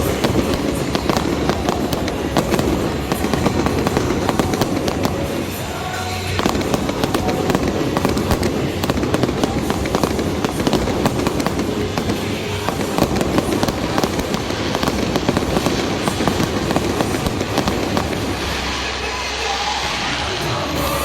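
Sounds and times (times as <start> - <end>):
fireworks crackling and popping: 0.0 - 21.0
music: 0.0 - 21.0.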